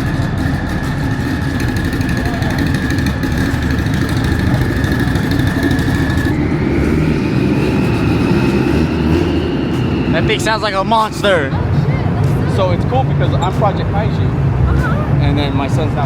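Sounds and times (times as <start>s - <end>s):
high-pitched whine: 0.0s - 14.1s
car engine rough exhaust rumble: 0.0s - 16.0s.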